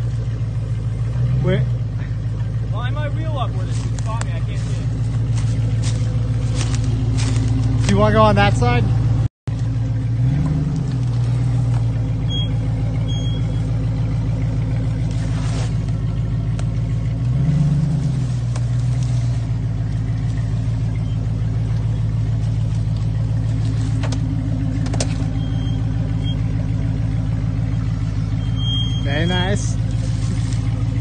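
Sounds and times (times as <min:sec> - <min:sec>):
truck engine running: 0:00.0 - 0:31.0.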